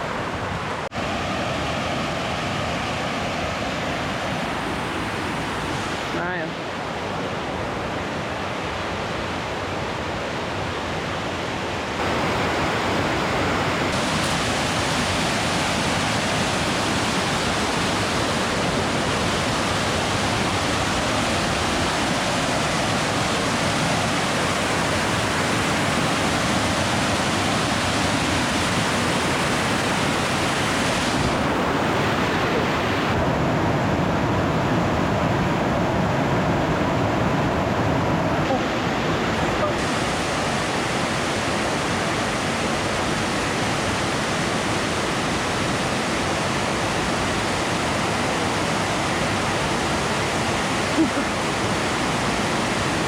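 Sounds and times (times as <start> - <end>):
waterfall rushing water: 0.0 - 53.0.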